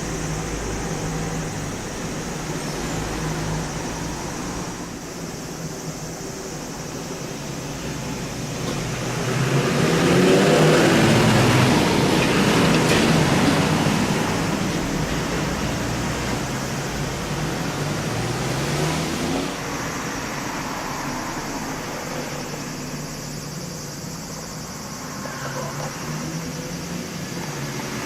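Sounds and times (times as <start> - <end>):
passing vehicle engine and tyres: 0.0 - 28.0.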